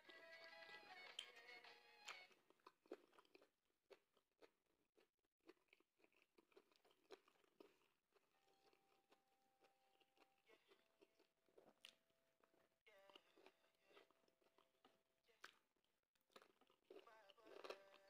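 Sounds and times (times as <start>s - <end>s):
person chewing with mouth clicks: 0.1s - 18.0s.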